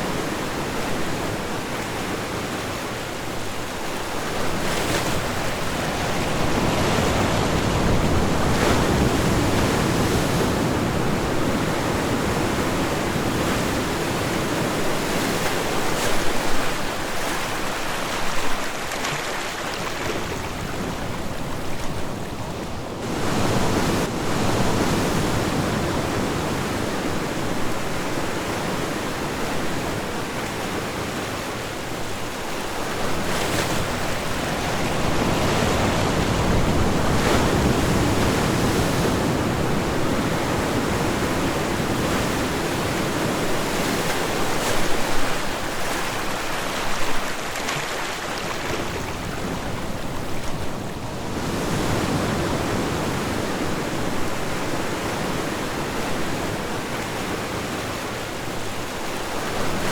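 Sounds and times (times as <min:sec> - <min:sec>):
waves breaking: 0:00.0 - 0:59.9.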